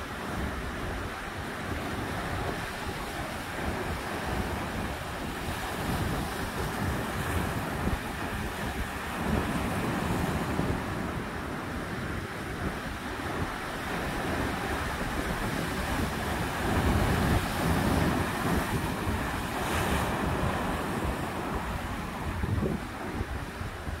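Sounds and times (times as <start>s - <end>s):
ocean waves washing ashore: 0.0s - 24.0s
wind buffeting microphone: 0.0s - 24.0s.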